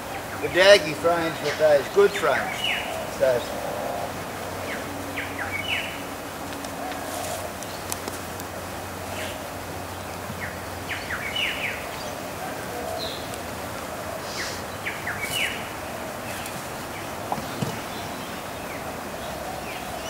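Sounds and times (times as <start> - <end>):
birds chirping: 0.0 - 20.0
outdoor background hiss: 0.0 - 20.0.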